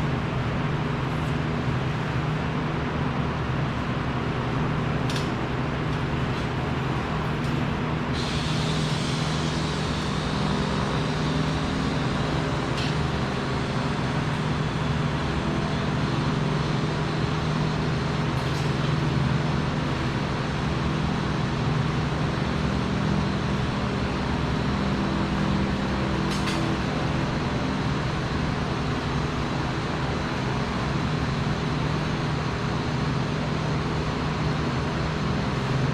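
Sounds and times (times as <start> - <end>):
low machinery hum: 0.0 - 35.9.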